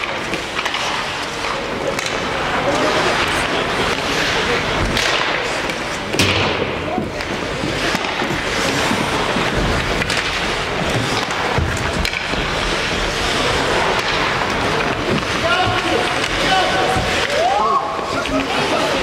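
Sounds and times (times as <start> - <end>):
hockey stick and puck clicks: 0.0 - 19.0
skates scraping ice: 0.0 - 19.0.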